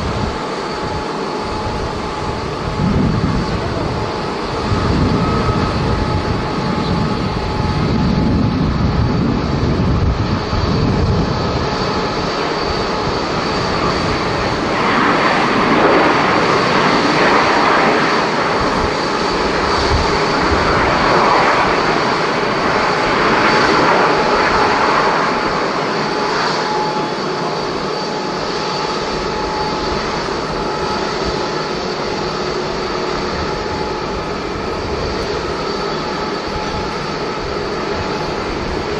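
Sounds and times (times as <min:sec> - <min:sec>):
jet engines rumbling and whining: 0:00.0 - 0:38.9.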